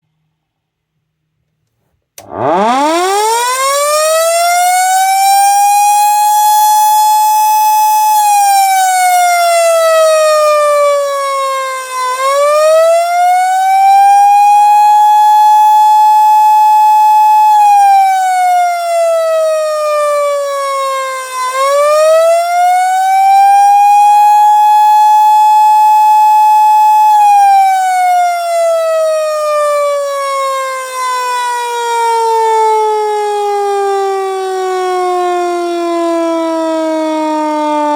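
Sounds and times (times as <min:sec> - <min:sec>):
air raid siren wailing: 0:02.2 - 0:37.9.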